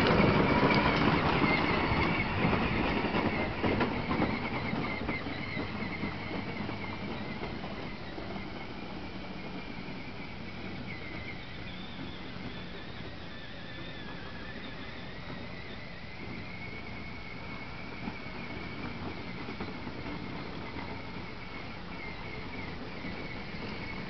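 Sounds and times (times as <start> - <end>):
electric toy vehicle whirring: 0.0 - 24.0
plastic wheels rolling on grass: 0.0 - 24.0.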